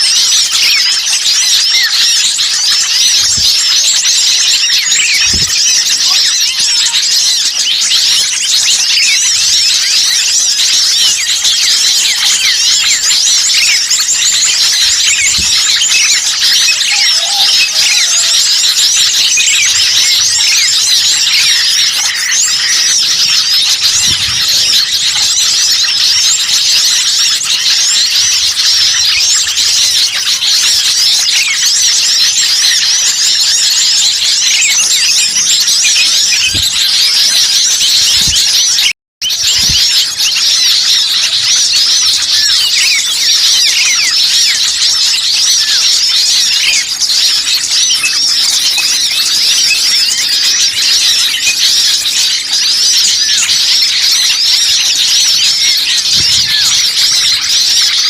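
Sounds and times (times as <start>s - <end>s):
small birds chirping and chattering: 0.0s - 58.0s.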